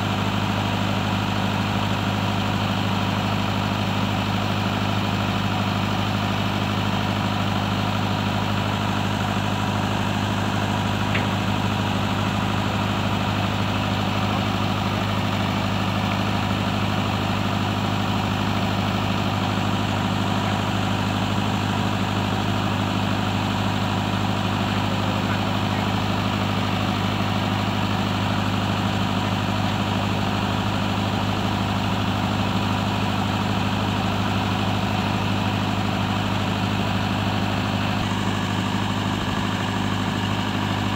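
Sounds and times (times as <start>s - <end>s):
excavator diesel engine idling: 0.0s - 40.9s.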